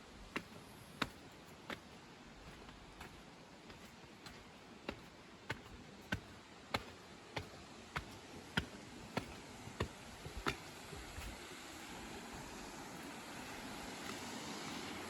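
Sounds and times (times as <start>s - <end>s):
footsteps walking: 0.0s - 14.8s.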